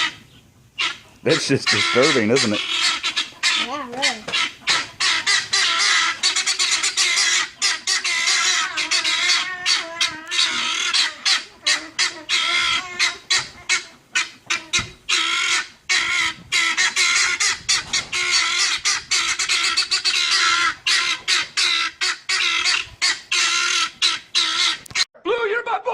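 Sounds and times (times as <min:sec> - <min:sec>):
guineafowl calling: 0:00.0 - 0:25.1.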